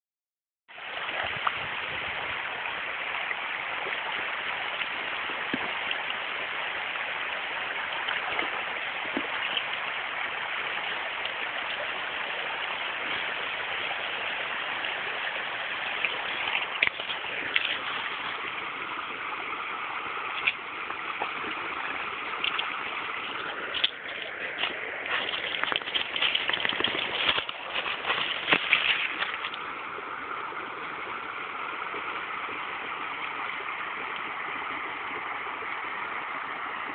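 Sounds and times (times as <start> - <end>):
running water rushing: 0.7 - 36.9.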